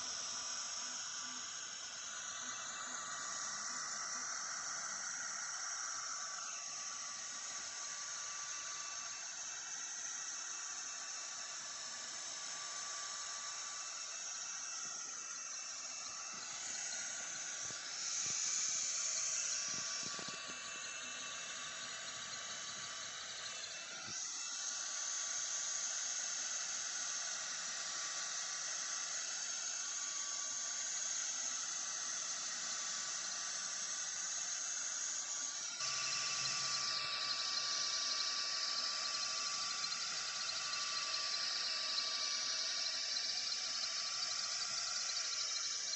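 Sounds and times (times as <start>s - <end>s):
thin steady whine: 0.0s - 45.9s.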